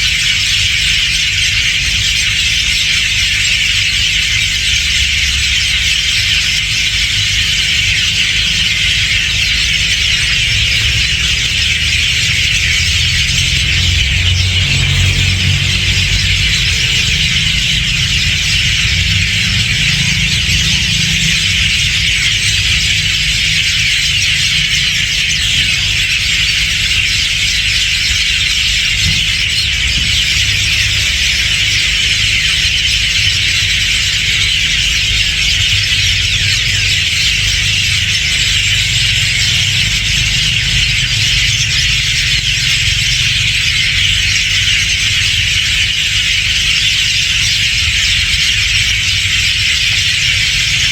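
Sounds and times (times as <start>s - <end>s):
chorus of birds chattering: 0.0s - 50.9s
steady low rumble: 4.6s - 46.1s.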